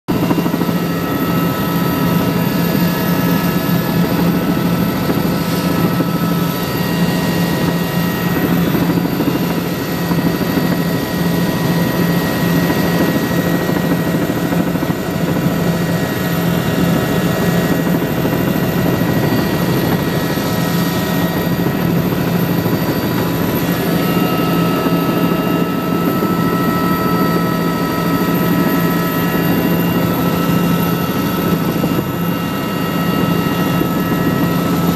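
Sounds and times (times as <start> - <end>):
helicopter cabin drone: 0.1 - 34.9
helicopter whining tones: 0.1 - 34.9.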